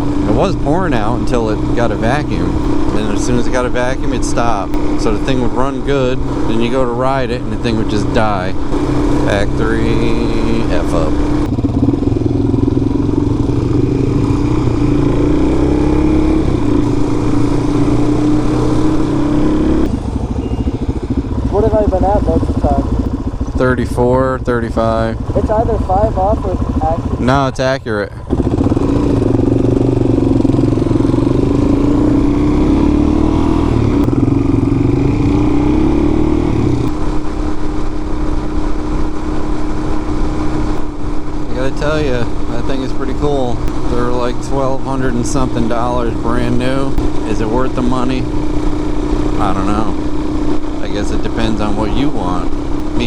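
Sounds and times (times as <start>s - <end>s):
motorcycle engine cruising: 0.0s - 53.0s
road rumble: 0.0s - 53.0s
wind: 0.0s - 53.0s.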